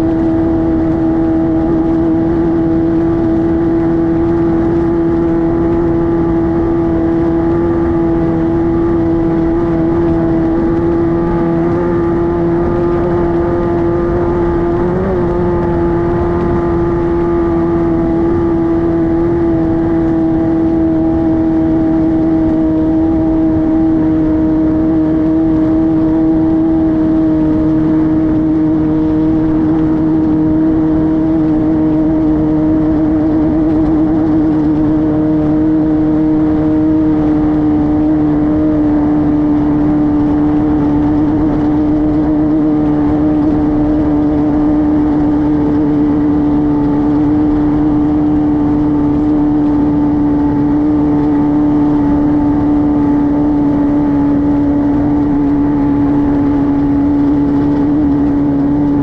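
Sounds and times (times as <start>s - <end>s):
race car engine droning: 0.0s - 59.0s.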